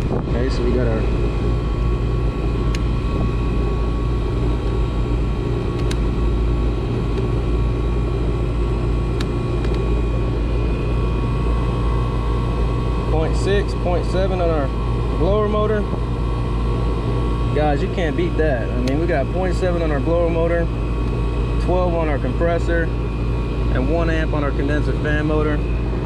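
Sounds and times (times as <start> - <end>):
air conditioner hum and rumble: 0.0 - 26.0
air conditioner whine: 0.0 - 26.0.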